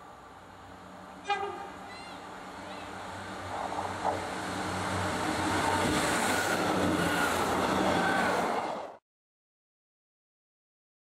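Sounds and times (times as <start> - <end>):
diesel train engine hum: 0.0 - 9.0
wheel and rail noise: 0.0 - 9.0.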